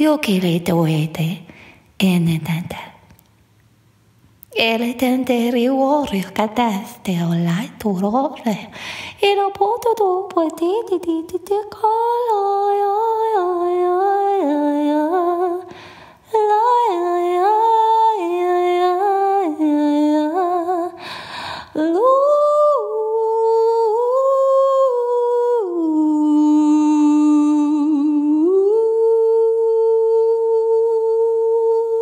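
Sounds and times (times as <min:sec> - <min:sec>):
solo wordless singing: 0:04.4 - 0:32.0.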